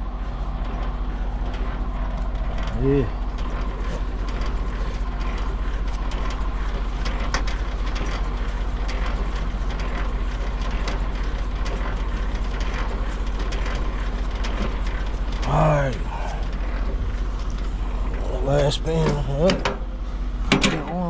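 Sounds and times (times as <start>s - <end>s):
steady low drone: 0.0s - 21.0s.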